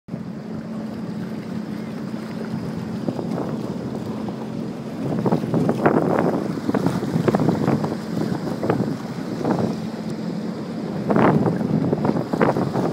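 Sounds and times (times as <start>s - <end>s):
jet ski engine humming: 0.1s - 12.9s
wind buffeting microphone: 0.4s - 12.9s.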